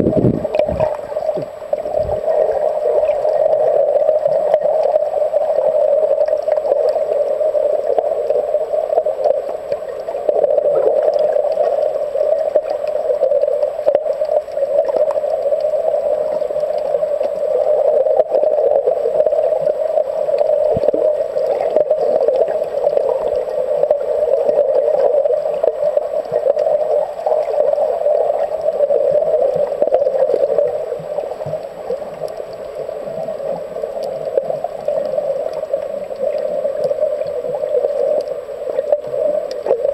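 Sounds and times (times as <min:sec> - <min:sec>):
muffled underwater rushing: 0:00.0 - 0:39.9
faint clicks: 0:00.5 - 0:39.9.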